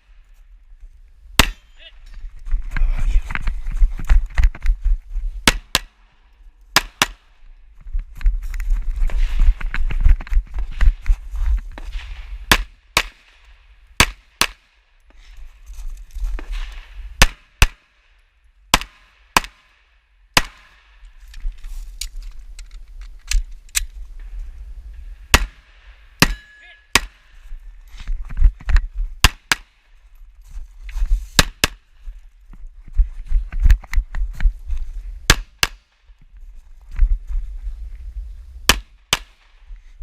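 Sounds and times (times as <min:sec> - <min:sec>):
rumbling and movement noise: 0:00.0 - 0:40.0.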